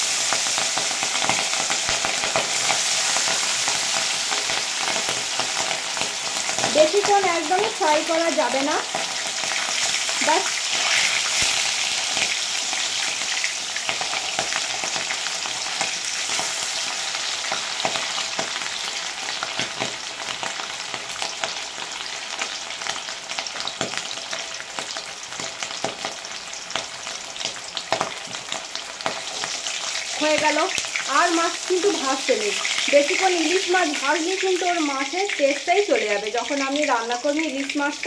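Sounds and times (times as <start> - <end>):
fish sizzling in hot oil: 0.0 - 38.0.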